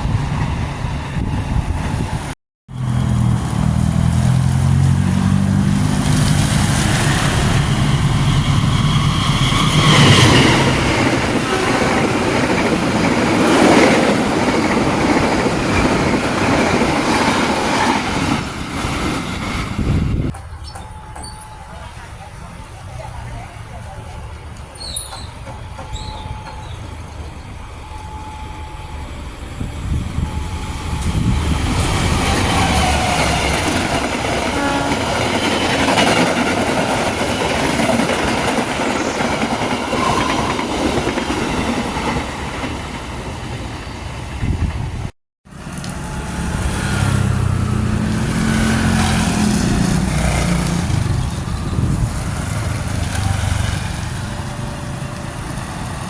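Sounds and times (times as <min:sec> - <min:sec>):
train passing at speed: 0:00.0 - 0:56.0.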